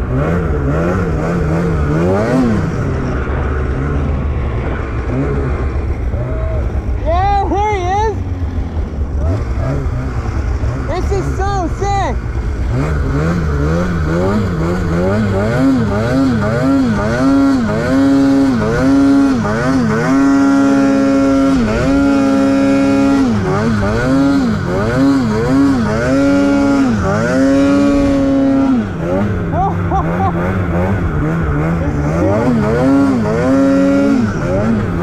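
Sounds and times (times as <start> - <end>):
snowmobile engine revving: 0.0 - 35.0.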